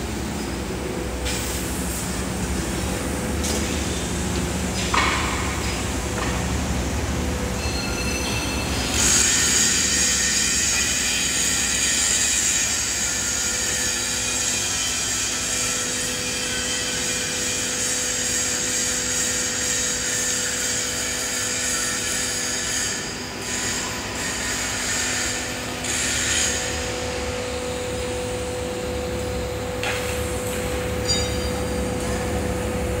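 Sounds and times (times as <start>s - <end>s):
air compressor hum and hiss: 0.0s - 33.0s.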